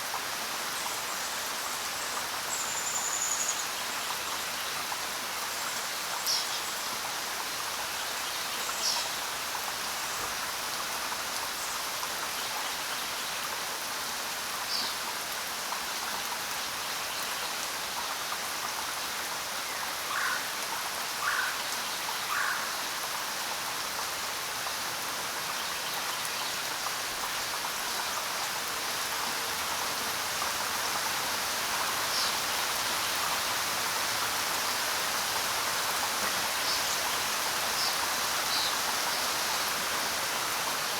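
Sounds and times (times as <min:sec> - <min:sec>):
rain falling on ground: 0:00.0 - 0:40.9.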